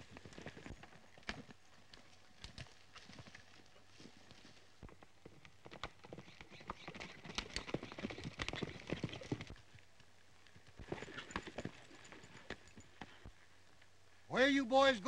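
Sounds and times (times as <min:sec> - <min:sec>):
horses hooves galloping on dirt: 0:00.0 - 0:13.5.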